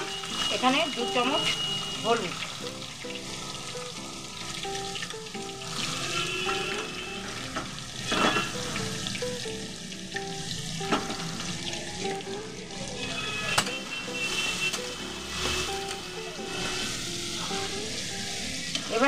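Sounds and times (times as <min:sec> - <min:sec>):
oil sizzling around food: 0:00.0 - 0:19.0
soft background music: 0:00.0 - 0:19.0.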